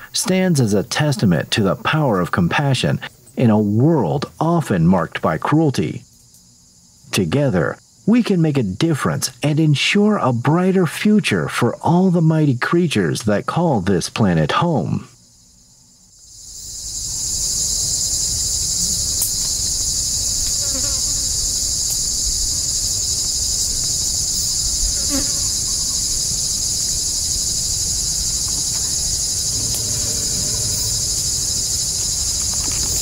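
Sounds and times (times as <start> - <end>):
insects shrilling chorus: 0.0 - 8.9, 15.1 - 33.0.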